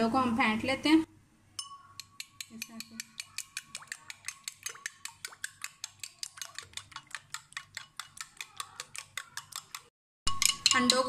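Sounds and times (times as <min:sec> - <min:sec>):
fork clinking against glass bowl: 0:01.6 - 0:11.0.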